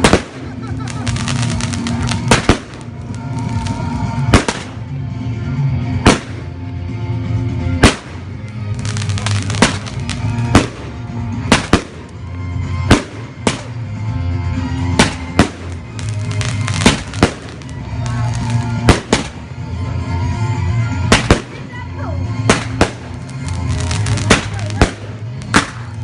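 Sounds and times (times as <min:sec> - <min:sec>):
fireworks bangs: 0:00.0 - 0:04.9, 0:06.0 - 0:06.5, 0:07.8 - 0:13.8, 0:14.8 - 0:19.5, 0:21.0 - 0:26.0
fireworks crackling: 0:00.0 - 0:26.0.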